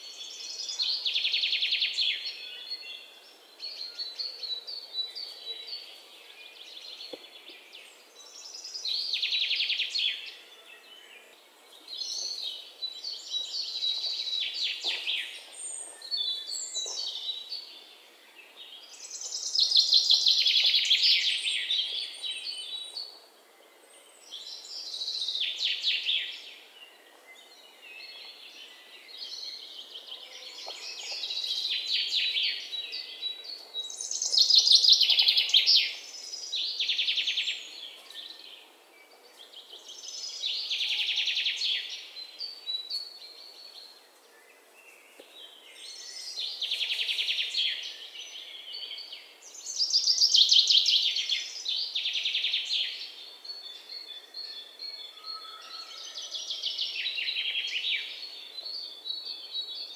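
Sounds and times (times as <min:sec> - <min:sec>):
faint background hiss: 0:00.0 - 0:55.2.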